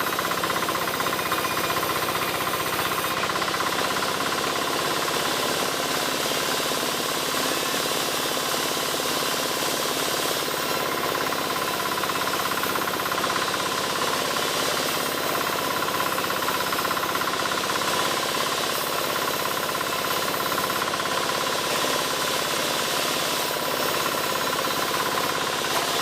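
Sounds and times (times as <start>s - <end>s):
engine-powered wood saw cutting: 0.0s - 26.0s.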